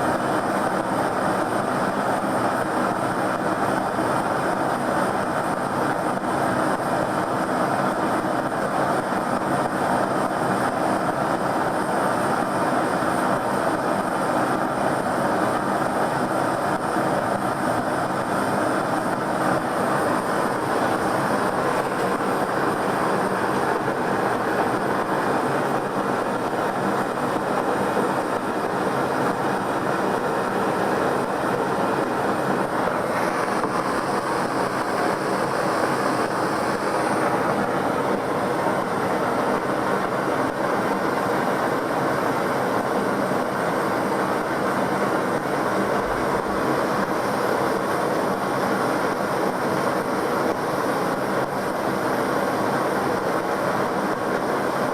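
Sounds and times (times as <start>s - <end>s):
gas torch flame roaring: 0.0s - 54.8s.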